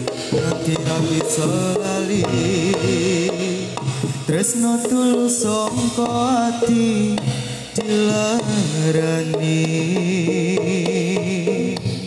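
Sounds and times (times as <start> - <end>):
drums struck in quick pattern: 0.0 - 12.0.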